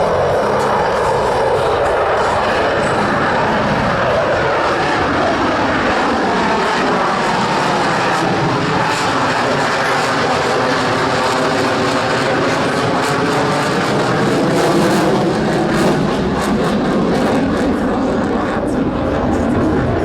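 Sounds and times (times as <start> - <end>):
jet engines at full power: 0.0 - 20.0.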